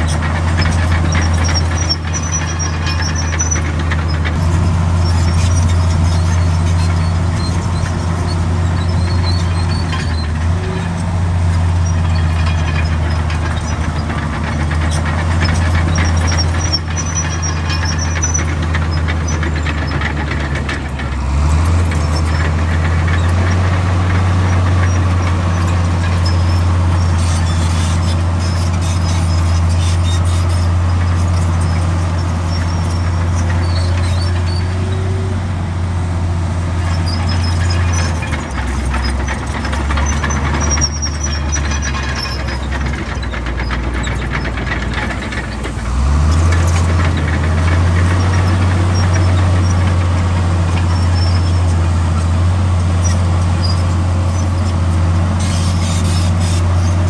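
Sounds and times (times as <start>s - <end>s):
bulldozer diesel engine running: 0.0s - 57.0s
short high squeaks: 0.1s - 35.3s, 36.8s - 50.1s, 50.7s - 57.0s.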